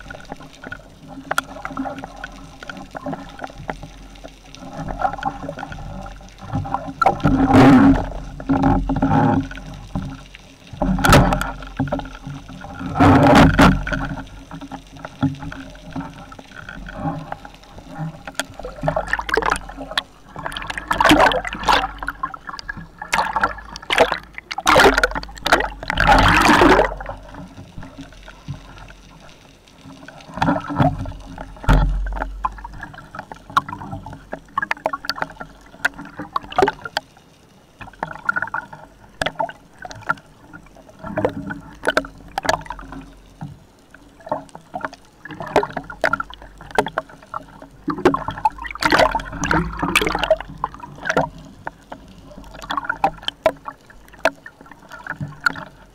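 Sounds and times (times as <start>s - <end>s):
water splashing and bubbling: 0.0s - 55.9s.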